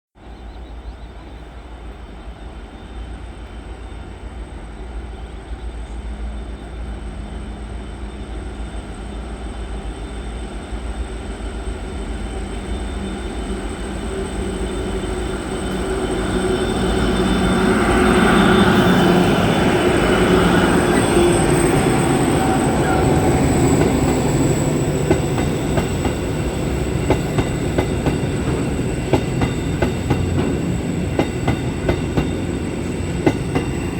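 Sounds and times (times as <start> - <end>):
diesel locomotive engine: 0.2 - 33.9.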